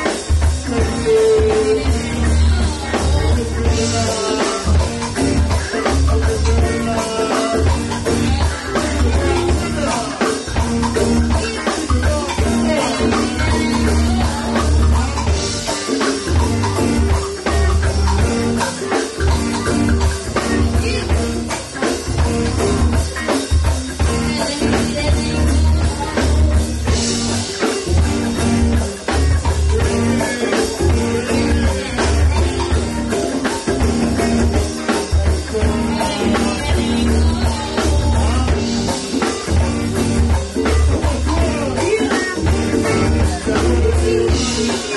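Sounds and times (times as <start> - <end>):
drum kit: 0.0 - 44.9
guitar: 0.0 - 44.9.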